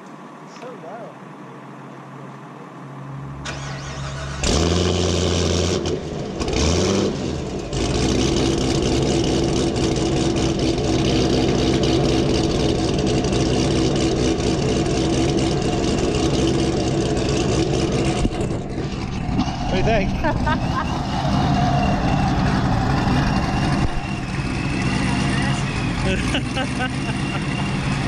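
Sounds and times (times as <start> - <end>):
car engine starting and idling: 0.0 - 28.0.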